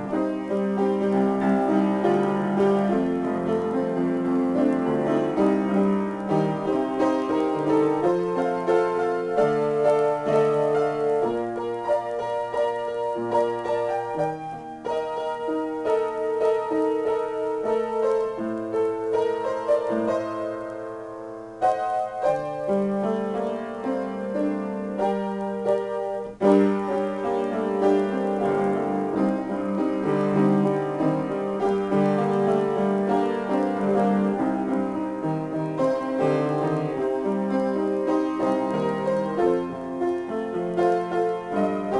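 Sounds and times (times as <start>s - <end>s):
solo piano: 0.0s - 41.9s.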